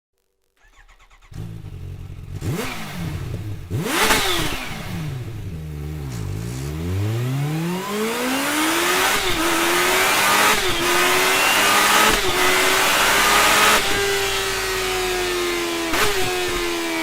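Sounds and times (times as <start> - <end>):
motorcycle accelerating hard: 0.6 - 17.0.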